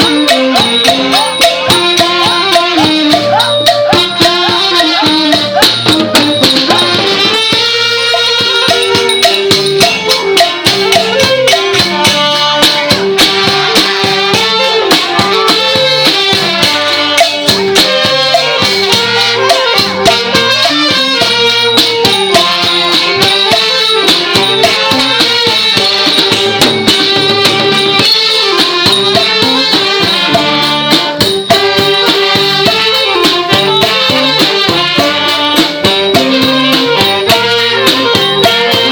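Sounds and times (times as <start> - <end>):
drums and small percussion: 0.0 - 38.9
wind instruments playing melody: 0.0 - 38.9.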